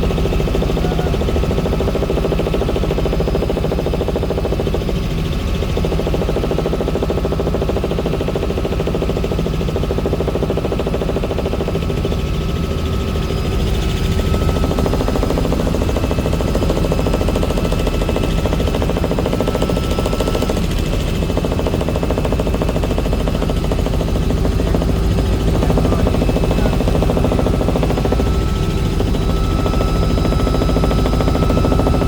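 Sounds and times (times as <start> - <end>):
helicopter rotor chop: 0.0 - 32.0.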